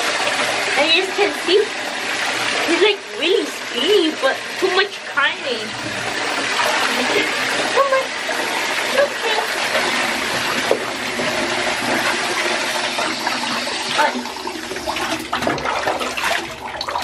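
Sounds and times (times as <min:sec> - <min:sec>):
bathwater splashing: 0:00.0 - 0:17.0.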